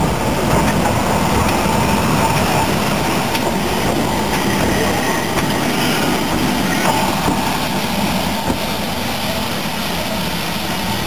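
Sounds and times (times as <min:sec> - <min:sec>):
train running: 0:00.0 - 0:11.0.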